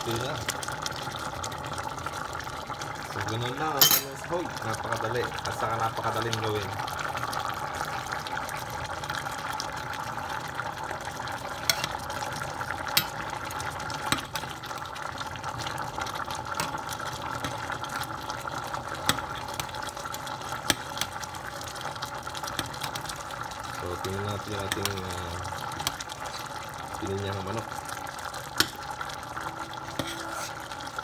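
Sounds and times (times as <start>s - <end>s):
stew bubbling in a pot: 0.0s - 31.0s.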